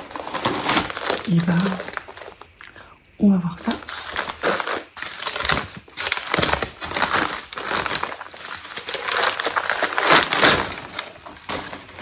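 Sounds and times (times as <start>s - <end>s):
wrapping paper crinkling: 0.0s - 2.7s, 3.6s - 12.0s.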